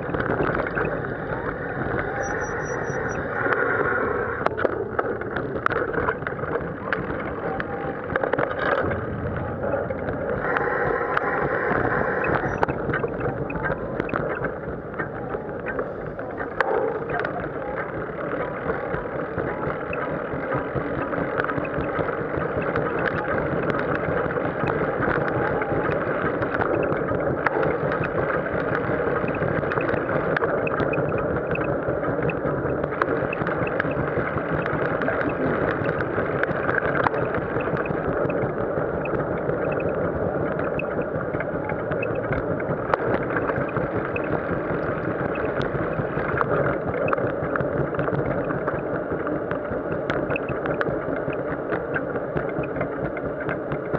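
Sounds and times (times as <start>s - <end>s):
wind rumbling on microphone: 0.0s - 53.9s.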